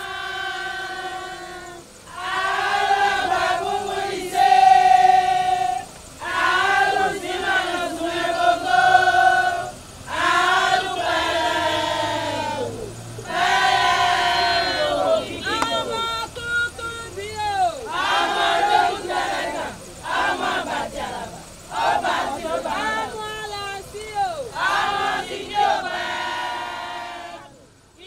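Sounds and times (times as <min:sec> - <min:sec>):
women's choir chanting: 0:00.0 - 0:28.0.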